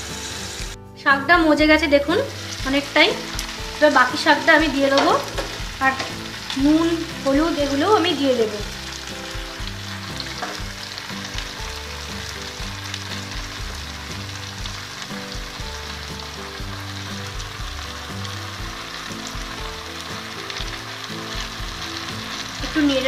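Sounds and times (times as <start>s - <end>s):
vegetables frying in oil: 0.0s - 0.8s, 1.6s - 23.0s.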